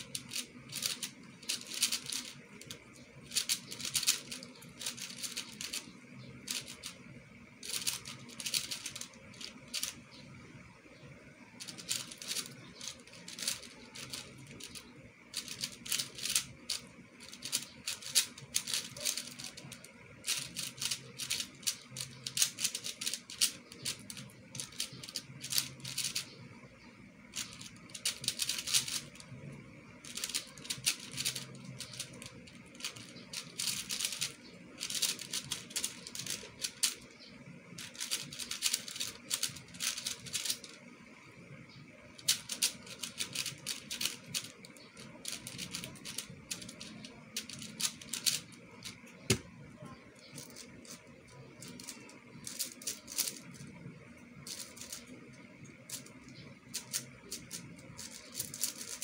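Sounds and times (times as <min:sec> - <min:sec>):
plastic puzzle cube clicking: 0:00.0 - 0:10.2, 0:11.6 - 0:26.4, 0:27.3 - 0:29.4, 0:30.0 - 0:40.8, 0:42.2 - 0:59.0.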